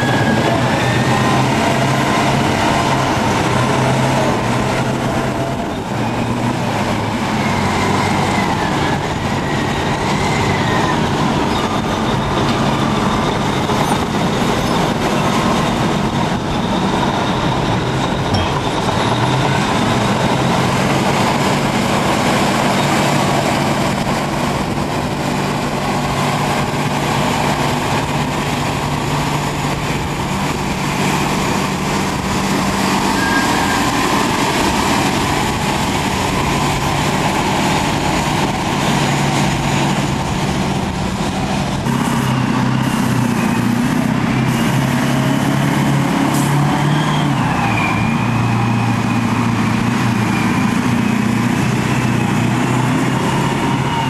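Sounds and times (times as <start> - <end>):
heavy diesel engines under load: 0.0 - 54.0
steel tracks clanking and squealing: 0.0 - 54.0.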